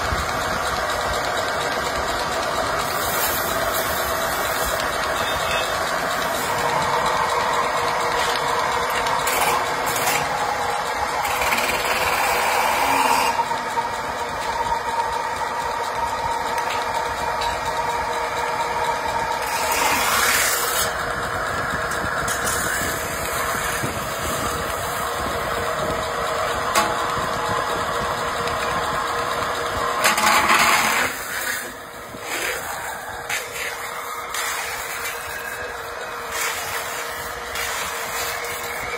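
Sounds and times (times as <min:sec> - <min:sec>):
metal-spinning lathe running: 0:00.0 - 0:38.9.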